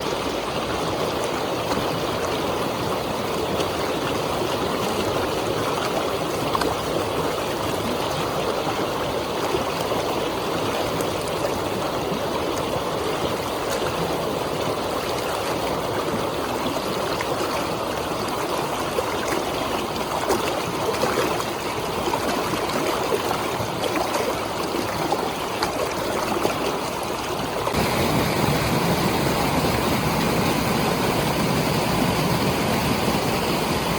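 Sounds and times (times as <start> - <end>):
water rushing through dam discharge: 0.0 - 33.9.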